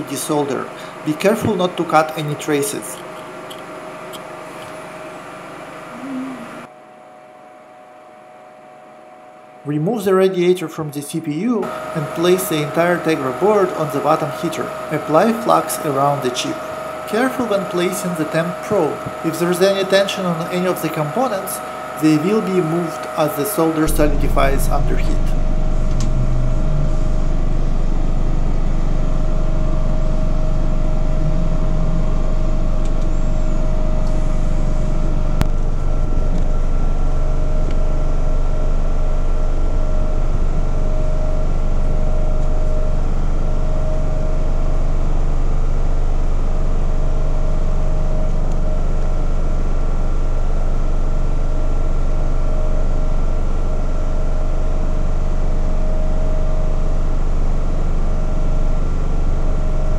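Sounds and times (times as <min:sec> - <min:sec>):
machine humming: 0:00.0 - 0:06.7, 0:09.7 - 0:59.9
faint whine: 0:00.0 - 0:59.9.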